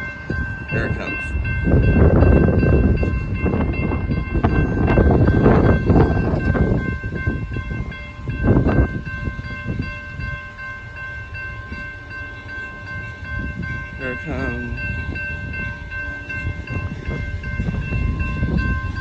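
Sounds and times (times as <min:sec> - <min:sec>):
rumble and rush of passing train: 0:00.0 - 0:19.0.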